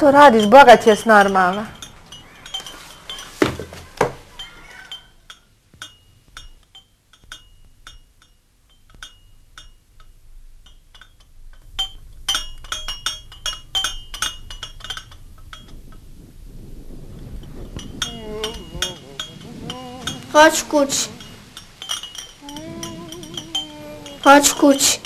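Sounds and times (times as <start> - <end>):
light clinking of small hard objects: 0.0 - 16.2, 17.2 - 25.0.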